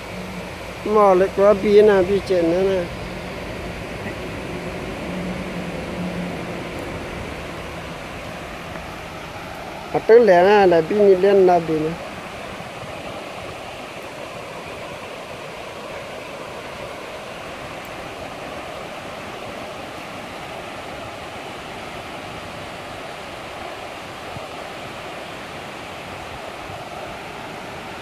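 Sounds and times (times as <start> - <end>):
water rushing over a dam: 0.0 - 28.0.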